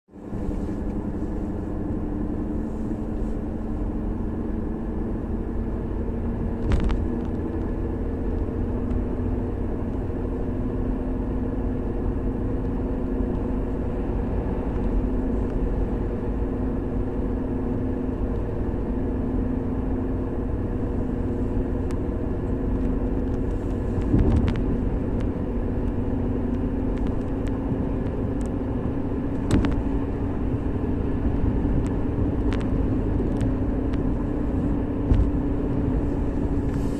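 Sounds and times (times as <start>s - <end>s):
car running low hum: 0.1s - 36.9s.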